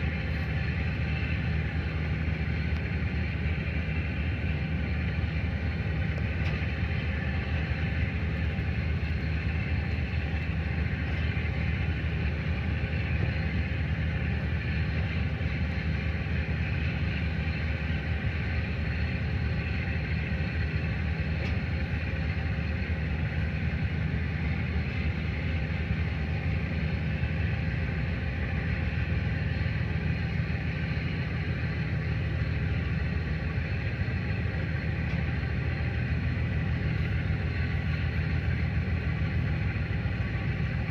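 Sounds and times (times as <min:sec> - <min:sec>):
diesel engine rumble: 0:00.0 - 0:40.9.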